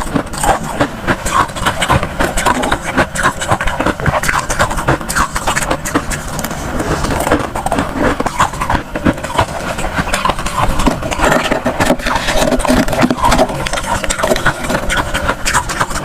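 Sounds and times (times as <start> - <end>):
frost being crunched and chewed: 0.0 - 16.0.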